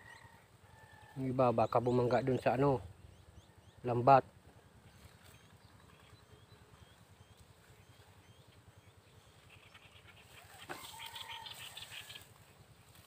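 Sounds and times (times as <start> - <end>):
small bird chirping: 1.6 - 13.0.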